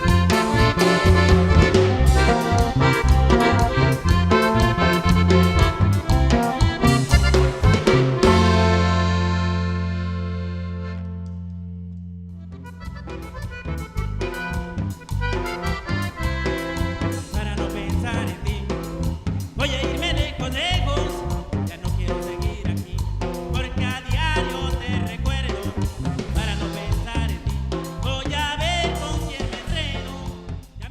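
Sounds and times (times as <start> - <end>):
accordion melody: 0.0 - 30.9
bass and drum beat: 0.0 - 30.9.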